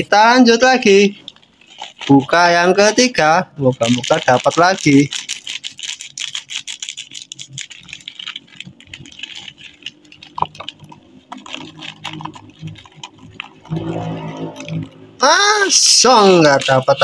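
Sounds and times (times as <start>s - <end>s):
snack bag crinkling: 0.7s - 17.0s
scissors cutting plastic: 1.2s - 15.0s, 15.6s - 17.0s.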